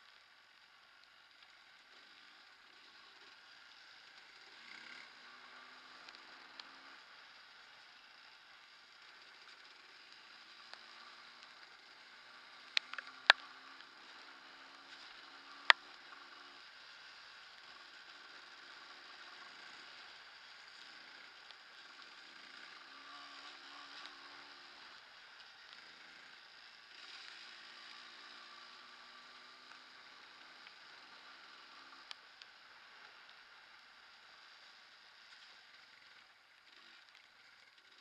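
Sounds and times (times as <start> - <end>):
faint two-stroke motorbike riding: 0.0 - 38.0.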